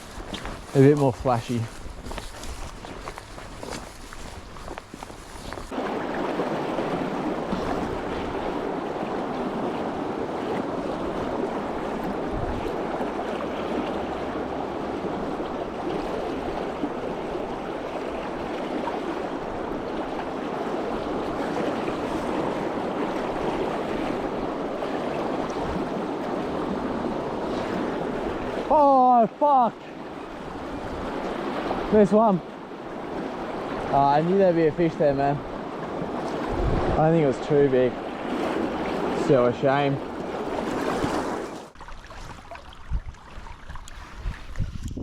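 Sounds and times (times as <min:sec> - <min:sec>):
flowing river water: 0:00.0 - 0:45.0.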